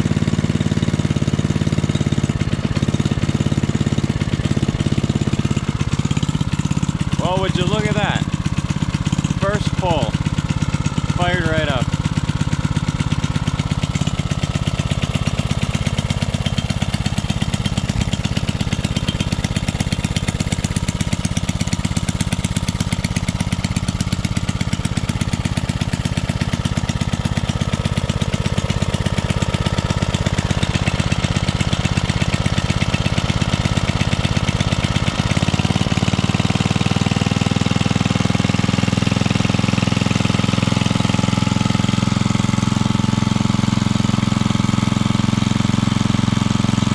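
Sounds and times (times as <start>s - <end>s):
small engine running: 0.0s - 46.9s.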